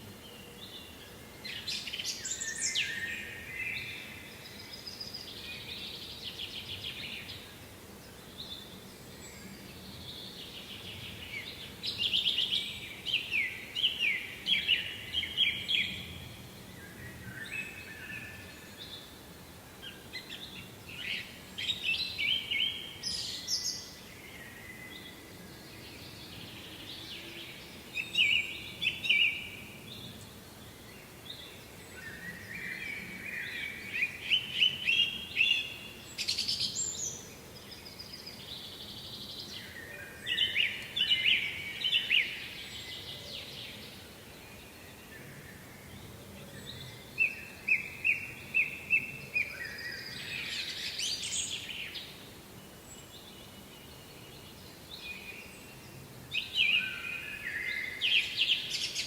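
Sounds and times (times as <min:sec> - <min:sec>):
faint background hiss: 0:00.0 - 0:59.0
songbirds singing: 0:00.0 - 0:59.0.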